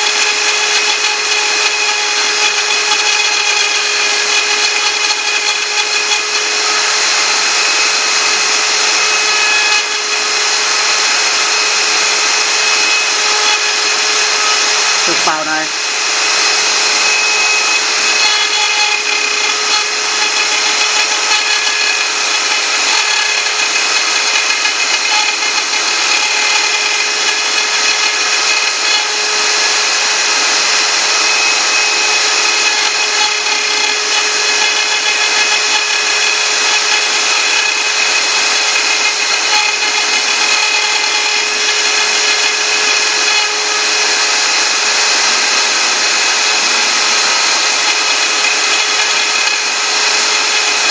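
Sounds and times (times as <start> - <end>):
router spindle hissing: 0.0 - 50.9.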